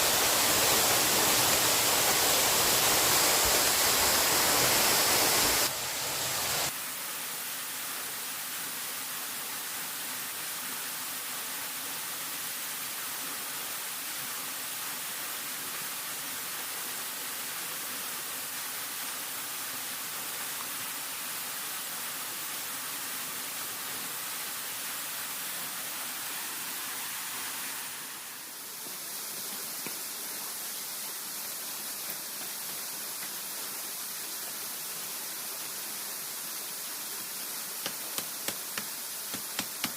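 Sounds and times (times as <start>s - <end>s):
hiss of rushing water or rain: 0.0s - 39.9s.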